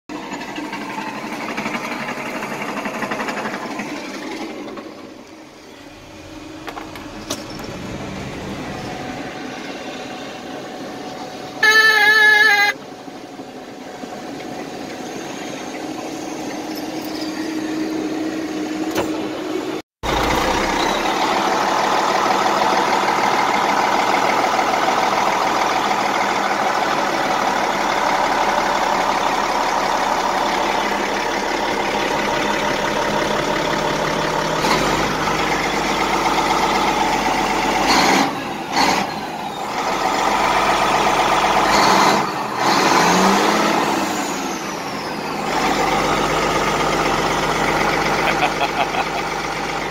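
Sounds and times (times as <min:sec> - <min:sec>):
diesel engine running: 0:00.1 - 0:49.9.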